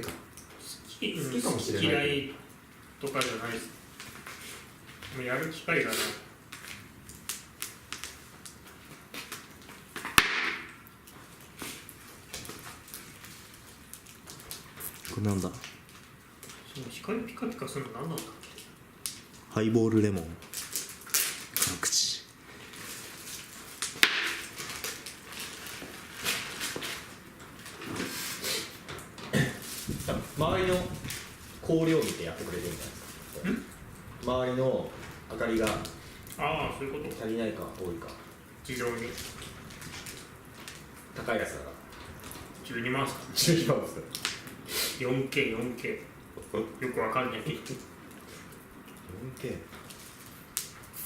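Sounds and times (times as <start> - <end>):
loud crack of fire: 0.0 - 19.6, 20.2 - 51.0
wood fire crackling: 0.0 - 51.0.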